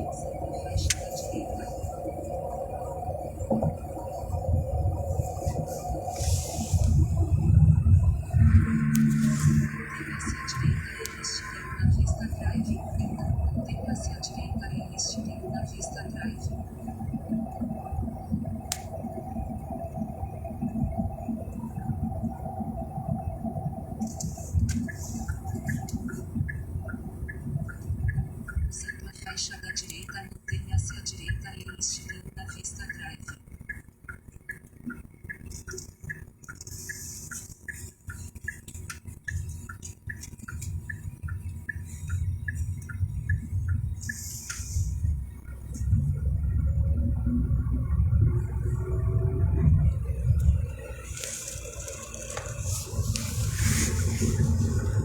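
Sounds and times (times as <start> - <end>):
low fluttering rumble: 0.0 - 55.0
steady hum: 0.0 - 55.0.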